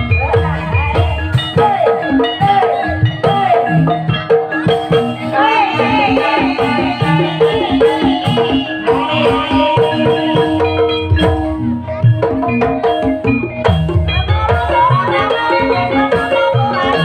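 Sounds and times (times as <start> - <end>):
gliding melodic line: 0.0 - 17.0
struck keyed percussion melody: 0.0 - 17.0.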